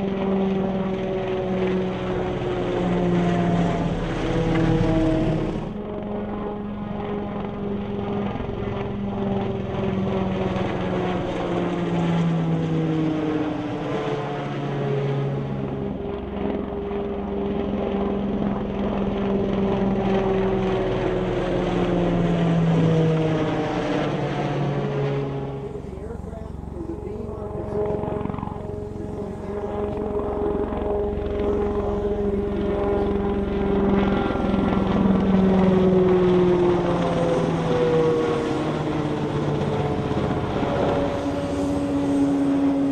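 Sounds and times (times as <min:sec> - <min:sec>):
helicopter flying past: 0:00.0 - 0:42.9.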